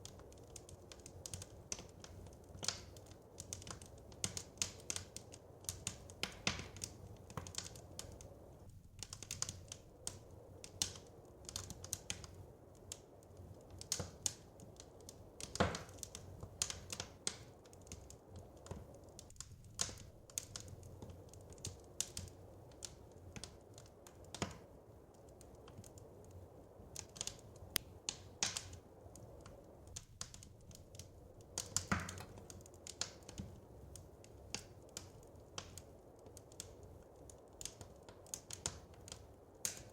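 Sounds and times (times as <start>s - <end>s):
faint low fire rumble: 0.0s - 39.9s
wood fire pops and snaps: 0.0s - 39.9s.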